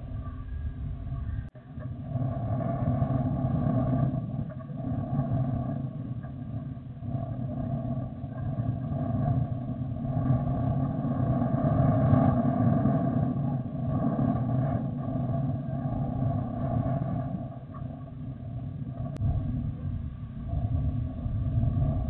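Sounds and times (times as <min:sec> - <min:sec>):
faint whining tones: 0:00.0 - 0:22.0.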